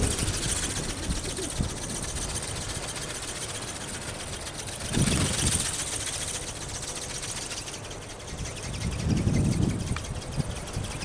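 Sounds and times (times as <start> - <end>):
wind buffeting microphone: 0.0 - 6.3, 8.1 - 11.0.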